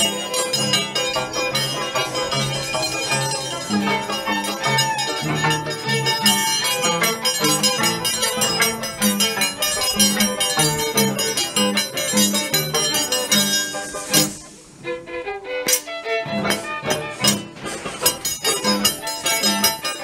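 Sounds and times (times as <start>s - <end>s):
folk band playing: 0.0s - 20.0s.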